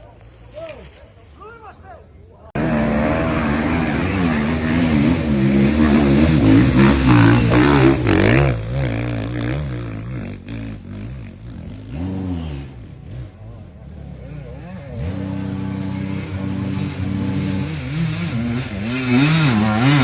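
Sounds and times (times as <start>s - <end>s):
motocross bike engines revving: 2.5s - 20.0s.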